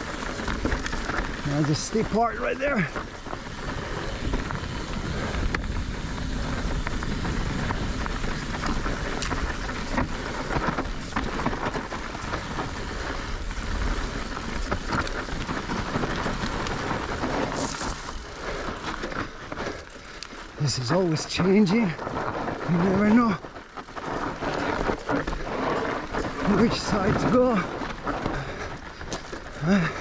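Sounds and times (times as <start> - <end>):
bike clicks and rattles: 0.0 - 30.0
tyres crunching on loose dirt: 0.0 - 30.0.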